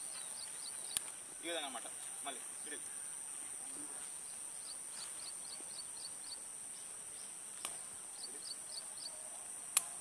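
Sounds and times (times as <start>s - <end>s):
insect buzz: 0.0s - 10.0s
insect chirps: 0.0s - 10.0s.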